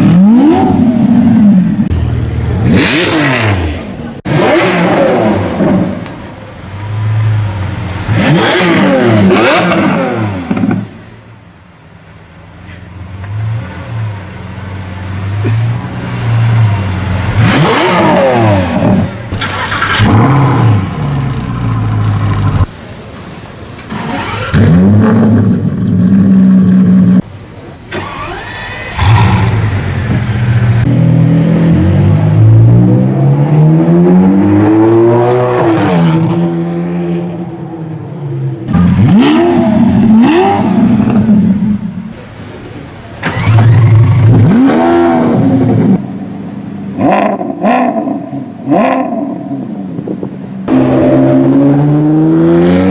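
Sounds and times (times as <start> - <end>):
sports car engines revving: 0.0 - 11.3, 12.1 - 23.0, 23.9 - 52.9.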